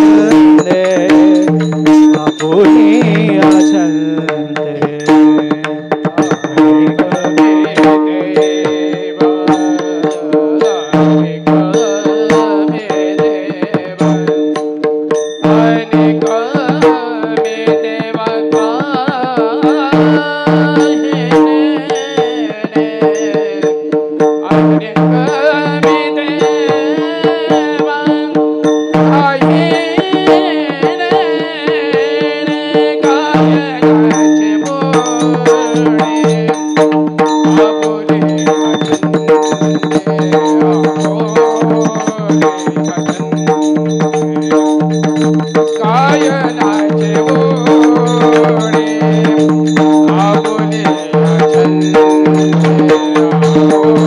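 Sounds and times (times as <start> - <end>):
person singing gliding phrases: 0.0 - 14.3, 15.5 - 28.4, 29.1 - 43.4, 45.6 - 54.0
hand drum beating: 0.0 - 54.0
small hand cymbals: 0.0 - 54.0.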